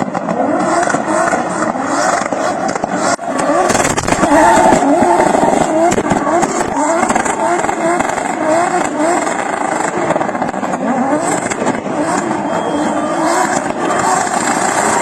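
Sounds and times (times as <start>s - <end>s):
car engine revving hard: 0.0s - 15.0s
steady rush of noise: 0.0s - 15.0s.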